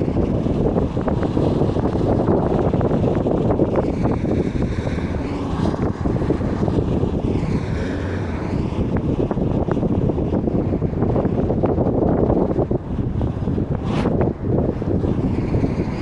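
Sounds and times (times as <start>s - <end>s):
bus rumbling: 0.0s - 16.0s
wind buffeting microphone: 0.0s - 16.0s.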